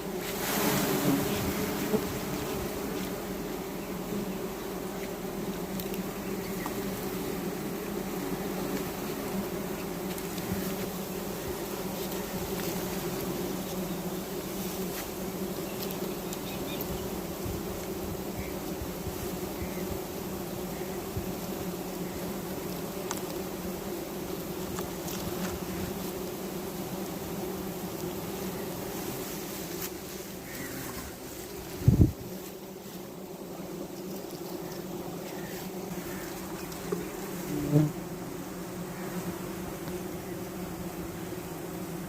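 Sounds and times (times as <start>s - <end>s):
bees buzzing: 0.0s - 42.0s.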